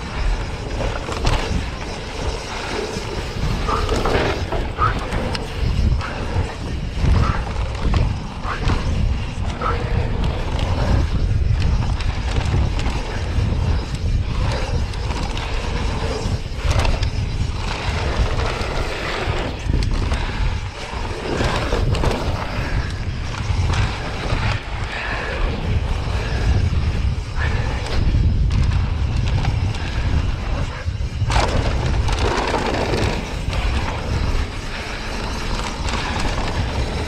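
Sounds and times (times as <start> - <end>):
bike tyres crunching over gravel: 0.0 - 37.0
wind rumbling on microphone: 0.0 - 37.0
bike knocks and rattles: 0.6 - 24.6, 31.1 - 37.0.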